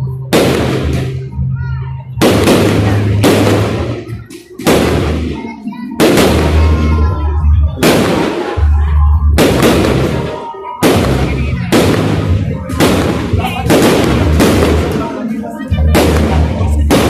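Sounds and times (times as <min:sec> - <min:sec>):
fireworks bangs with crackling: 0:00.3 - 0:01.4, 0:02.2 - 0:07.2, 0:07.8 - 0:08.8, 0:09.4 - 0:17.0.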